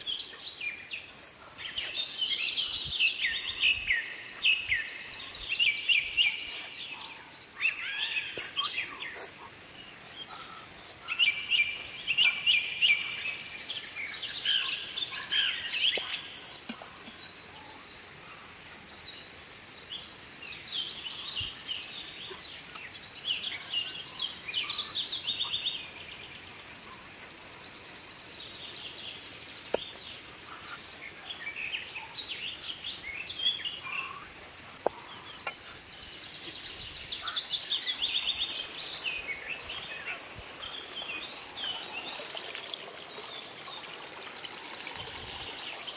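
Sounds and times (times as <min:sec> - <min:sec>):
birds singing and calling: 0:00.0 - 0:45.9
steady outdoor hiss: 0:00.0 - 0:45.9.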